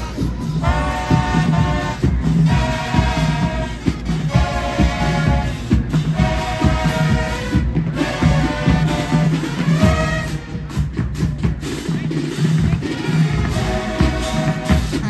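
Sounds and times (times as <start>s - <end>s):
drumline drumming: 0.0s - 15.0s
marching band horns playing chords: 0.0s - 15.0s.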